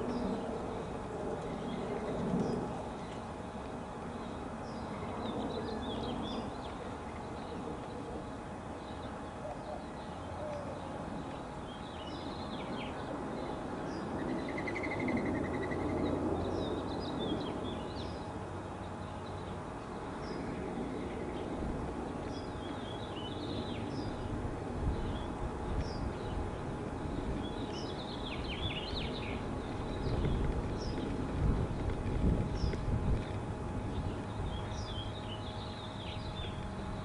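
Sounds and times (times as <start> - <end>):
low background rumble: 0.0 - 37.0
small birds chirping: 0.0 - 37.0.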